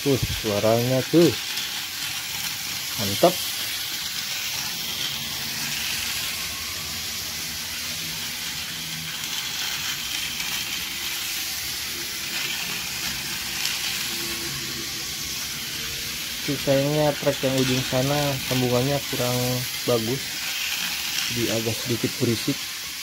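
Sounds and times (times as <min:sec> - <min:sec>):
toy train rattling on track: 0:00.0 - 0:23.0.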